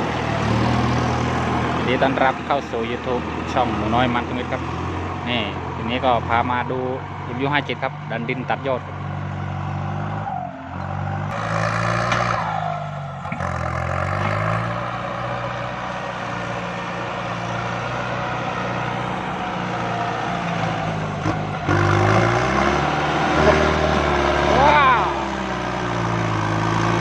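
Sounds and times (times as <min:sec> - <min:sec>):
tractor diesel engine under load: 0:00.0 - 0:27.0.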